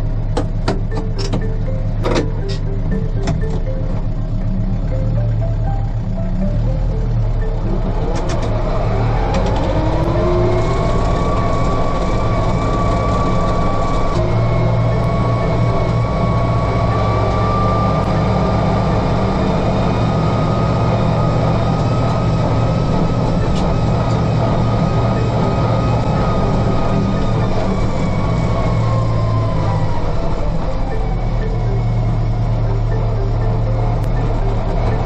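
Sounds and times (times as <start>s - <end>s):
engine whine: 0.0s - 35.0s
farm vehicle engine running: 0.0s - 35.0s.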